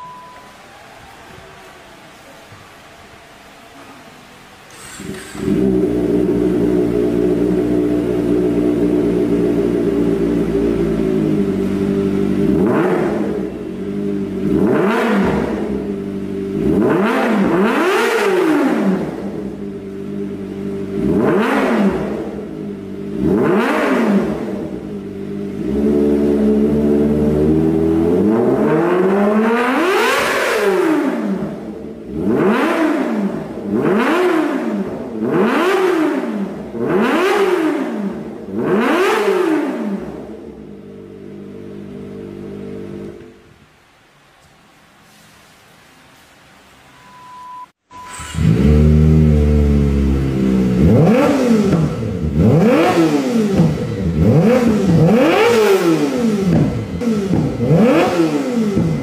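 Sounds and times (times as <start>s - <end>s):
motorcycle engine revving: 4.7s - 43.4s, 48.0s - 59.0s.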